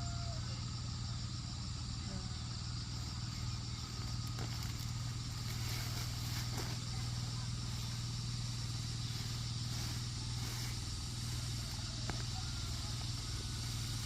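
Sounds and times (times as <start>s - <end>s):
small engine running: 0.0s - 14.0s
steady hiss: 0.0s - 14.0s.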